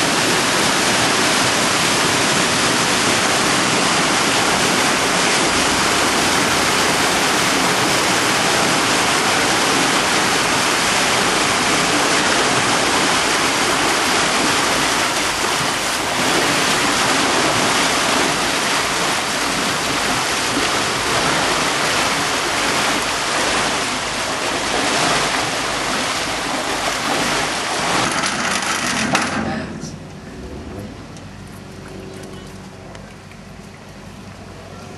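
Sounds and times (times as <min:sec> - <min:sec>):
water rushing: 0:00.0 - 0:34.6.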